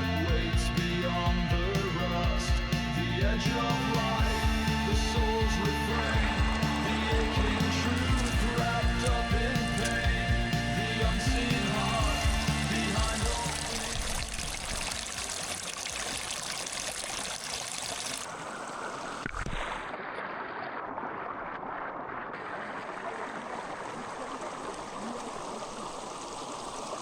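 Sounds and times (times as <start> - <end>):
rushing mountain stream: 3.9 - 21.0, 22.3 - 27.0.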